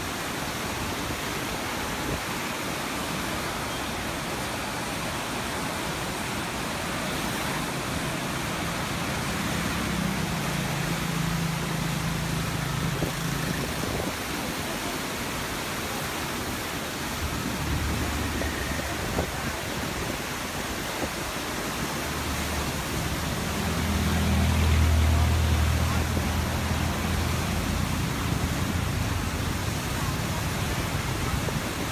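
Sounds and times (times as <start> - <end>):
water rushing in rapids: 0.0 - 31.9.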